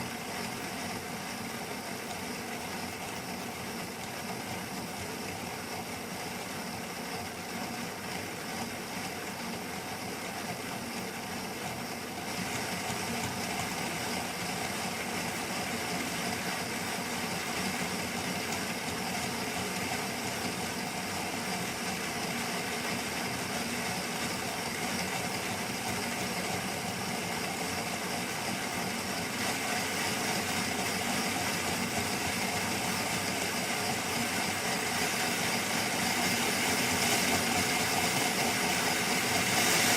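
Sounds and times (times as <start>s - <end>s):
model locomotive engine sound: 0.0s - 39.9s.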